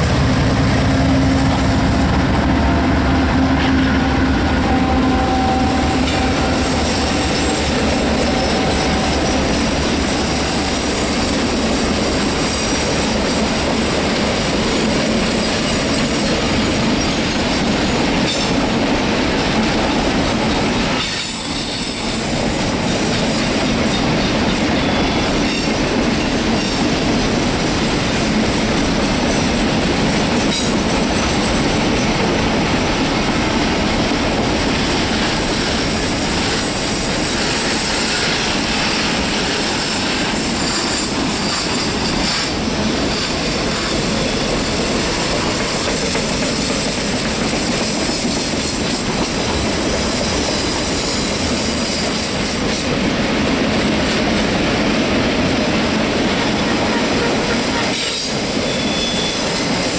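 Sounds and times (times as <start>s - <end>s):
wheels clacking over rail joints: 0.0s - 59.9s
train wheels squealing on rails: 0.7s - 53.1s, 53.8s - 59.9s.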